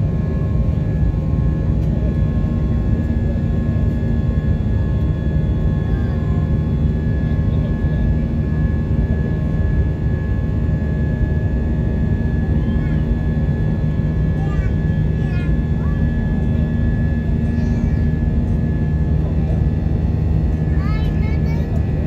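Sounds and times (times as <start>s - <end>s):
airliner engine drone: 0.0s - 22.0s.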